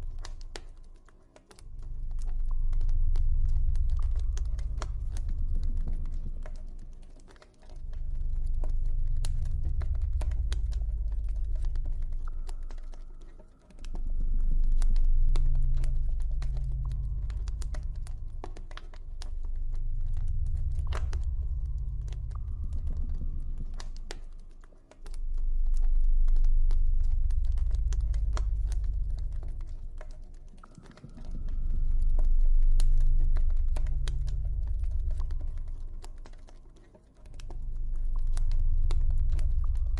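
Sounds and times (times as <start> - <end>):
deep ambient drone: 0.0 - 39.9.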